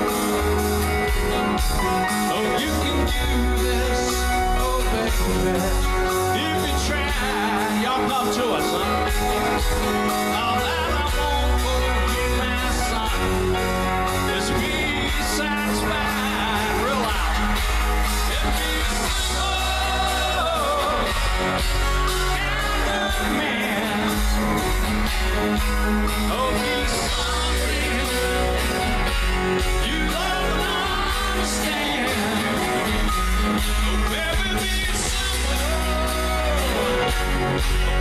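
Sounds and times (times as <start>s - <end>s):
live rock band playing: 0.0s - 38.0s
man singing: 1.4s - 38.0s.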